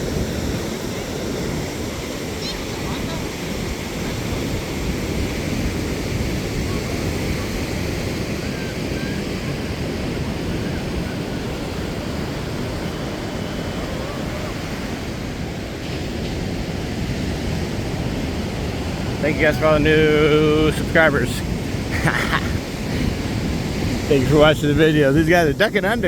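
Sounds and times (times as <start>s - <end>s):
ocean surf: 0.0s - 26.0s
wind buffeting microphone: 0.0s - 26.0s.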